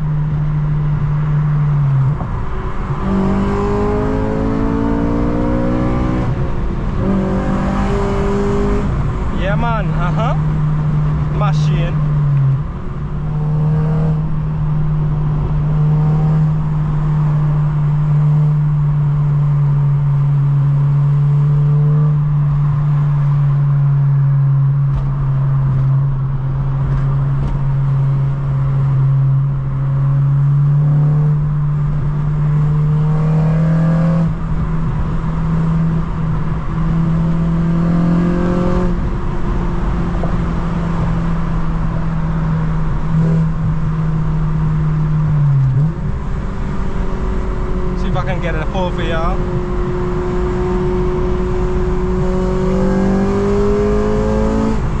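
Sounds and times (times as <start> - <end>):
car engine and exhaust droning: 0.0 - 55.0.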